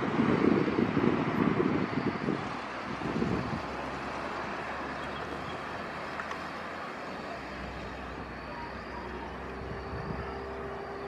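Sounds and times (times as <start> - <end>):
distant propeller plane drone: 0.0 - 11.0.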